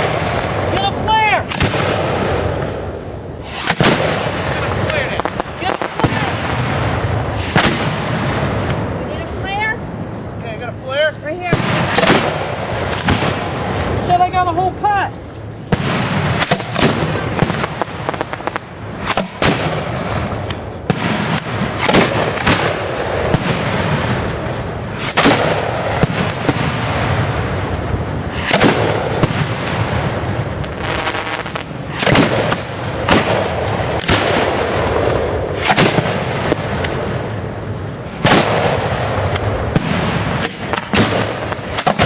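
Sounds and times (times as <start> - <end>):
fireworks bangs and shell bursts: 0.0 - 10.4, 11.2 - 14.3, 15.1 - 42.0
continuous fireworks crackling: 0.0 - 42.0.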